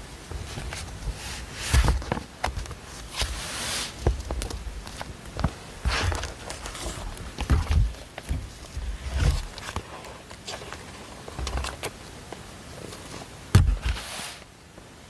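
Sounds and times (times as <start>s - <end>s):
paper rustling: 0.3s - 11.9s, 12.8s - 14.4s.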